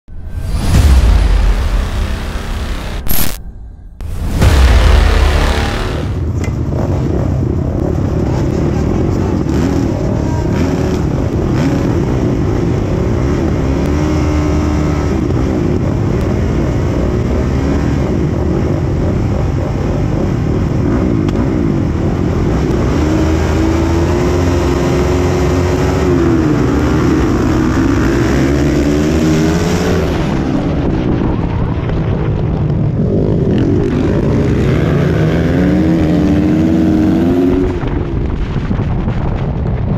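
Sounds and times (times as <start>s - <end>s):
motorcycle engines revving: 4.3s - 39.3s.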